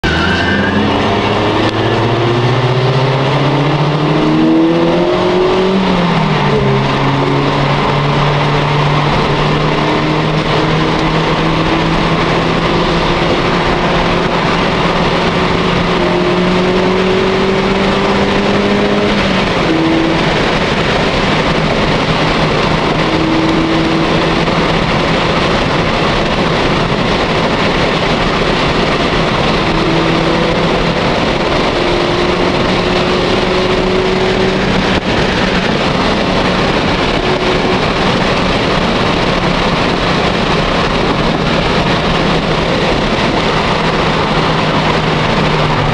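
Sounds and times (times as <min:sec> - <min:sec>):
car engine accelerating: 0:00.0 - 0:45.9
road noise: 0:00.0 - 0:45.9
wind noise: 0:00.0 - 0:45.9.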